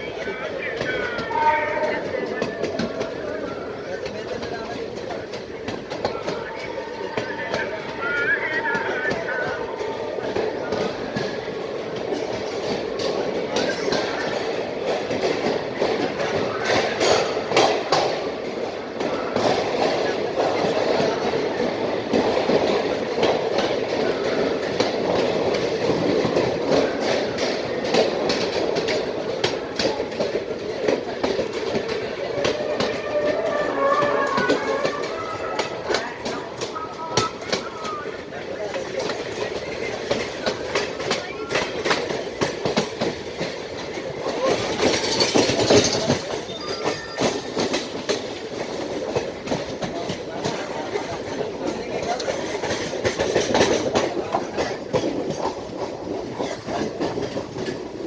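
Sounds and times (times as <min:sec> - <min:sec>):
train rushing rumble: 0:00.0 - 0:58.0
wheels clattering over rail joints: 0:10.2 - 0:58.0.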